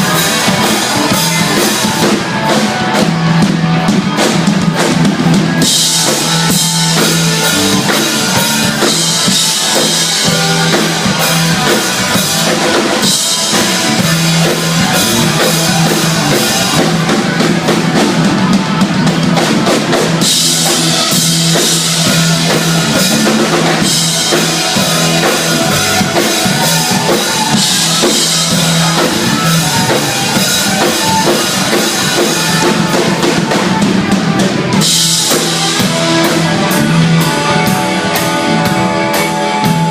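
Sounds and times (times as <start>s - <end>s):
band playing blues: 0.0s - 39.9s
drum kit: 0.0s - 39.9s
low bass riff: 0.0s - 39.9s.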